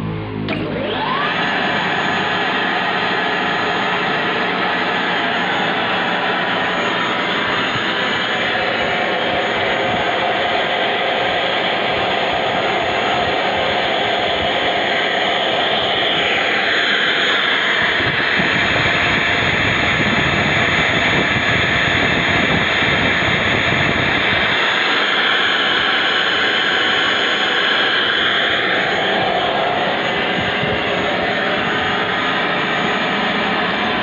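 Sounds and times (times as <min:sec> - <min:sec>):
turbocharger air rush: 0:00.0 - 0:34.0
turbocharger high whine: 0:00.0 - 0:34.0.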